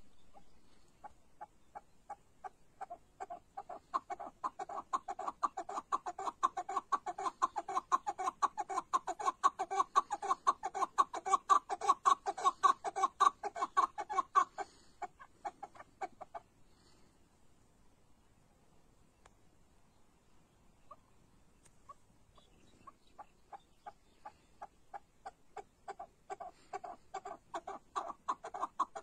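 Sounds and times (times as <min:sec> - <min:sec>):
partridge clucking calls: 0:00.0 - 0:17.0, 0:20.8 - 0:29.0.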